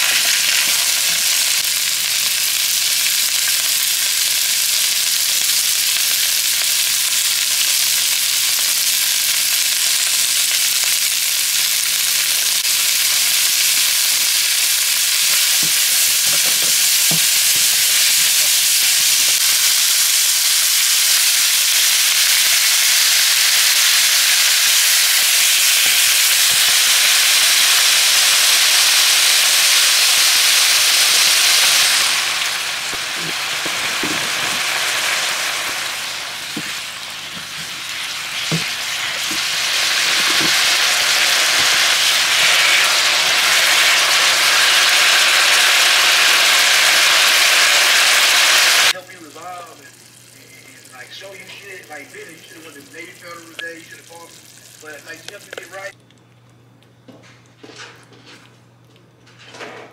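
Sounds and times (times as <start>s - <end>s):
food sizzling in frying pan: 0.0s - 55.9s.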